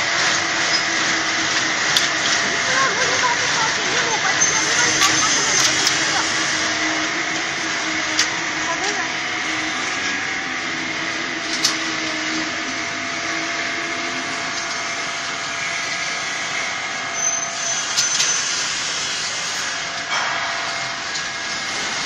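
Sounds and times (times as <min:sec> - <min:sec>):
frying machinery humming: 0:00.0 - 0:22.0.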